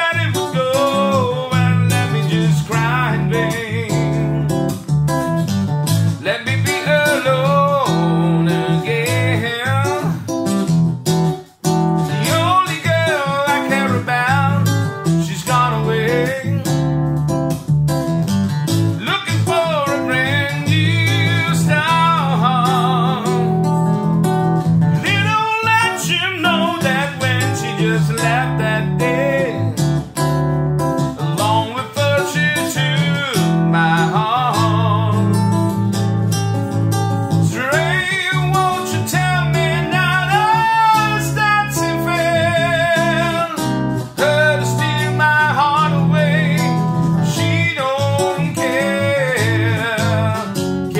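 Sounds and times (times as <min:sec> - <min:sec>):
man singing with vibrato: 0:00.0 - 0:04.8, 0:06.2 - 0:10.4, 0:12.1 - 0:17.1, 0:19.0 - 0:24.0, 0:25.0 - 0:30.0, 0:31.2 - 0:35.9, 0:37.3 - 0:50.9
acoustic guitar: 0:00.0 - 0:50.9.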